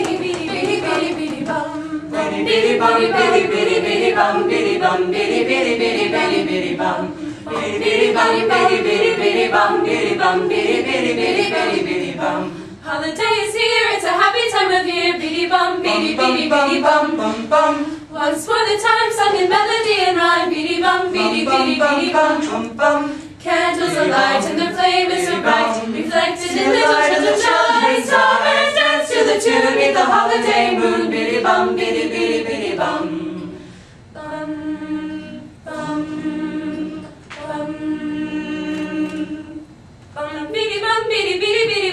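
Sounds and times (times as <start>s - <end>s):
a cappella group singing: 0.0s - 41.9s.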